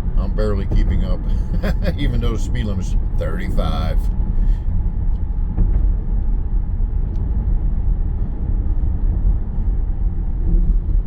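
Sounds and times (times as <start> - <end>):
car driving at road speed: 0.0 - 11.0
tyre and road noise: 0.0 - 11.0.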